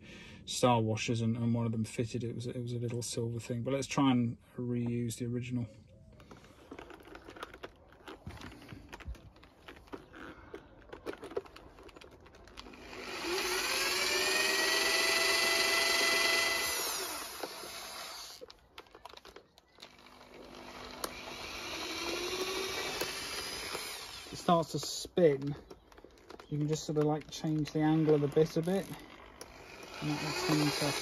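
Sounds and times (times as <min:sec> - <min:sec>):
cordless drill whining: 0:06.2 - 0:31.0.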